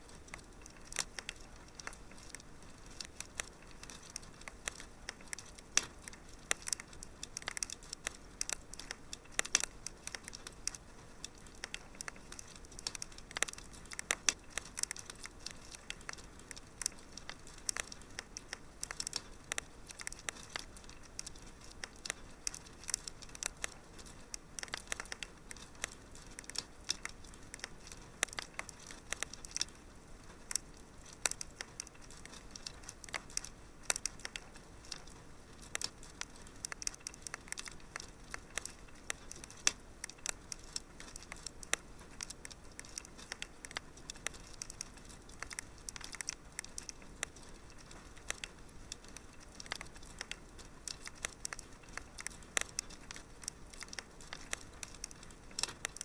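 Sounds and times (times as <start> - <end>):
faint steady hiss: 0.0 - 56.0
wood fire crackling: 0.0 - 56.0.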